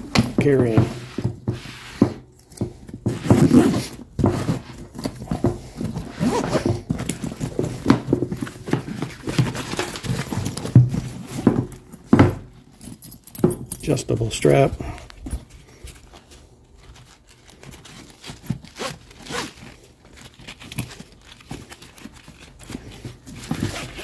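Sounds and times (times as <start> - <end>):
fabric rustling and scraping: 0.0 - 11.9, 14.5 - 24.0.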